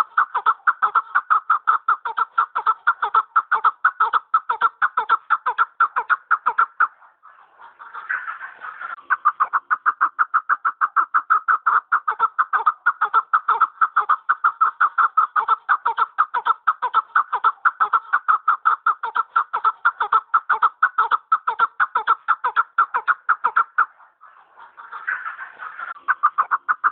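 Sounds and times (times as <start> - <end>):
partridge clucking calls: 0.0 - 26.9.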